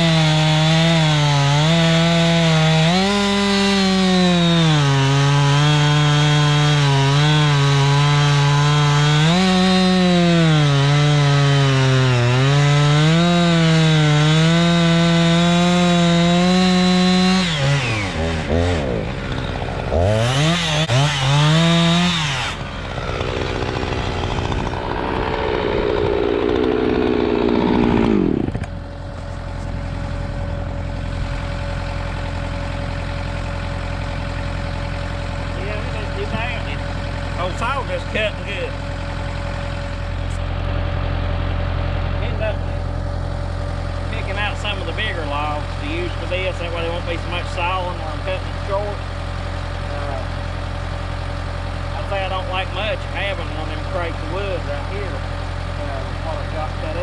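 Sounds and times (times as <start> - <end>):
chainsaw cutting log: 0.0 - 40.6, 42.0 - 57.0.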